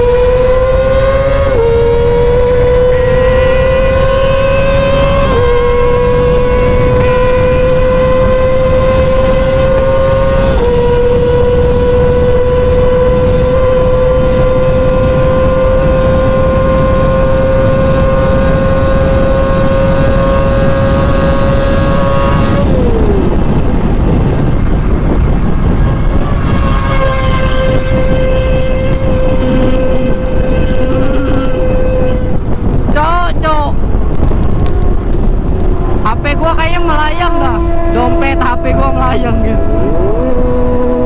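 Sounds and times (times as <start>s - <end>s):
sport bike engine screaming: 0.0s - 33.6s, 35.8s - 41.0s
heavy wind rush: 0.0s - 41.0s.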